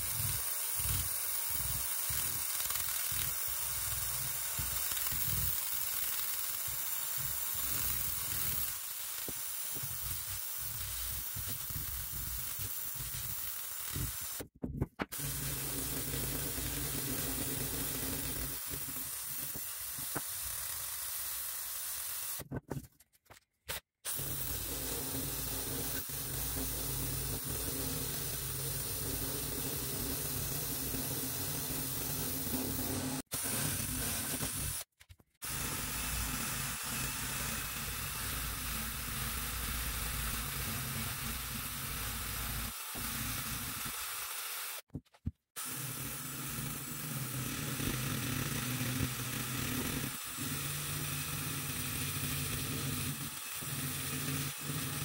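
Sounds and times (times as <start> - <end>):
drill motor hum: 0.0 - 14.5, 15.1 - 22.4, 24.1 - 44.8, 45.6 - 55.0.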